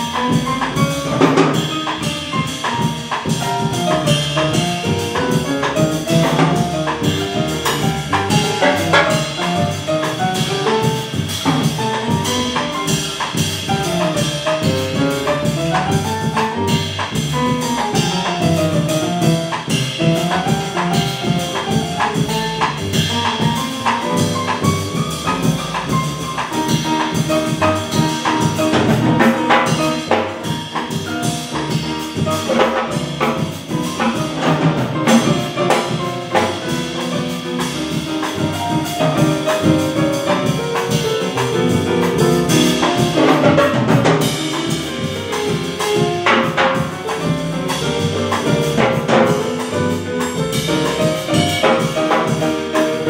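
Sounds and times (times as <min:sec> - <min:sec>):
drum kit: 0:00.0 - 0:53.0
grand piano: 0:00.0 - 0:53.0
upright bass: 0:00.0 - 0:53.0.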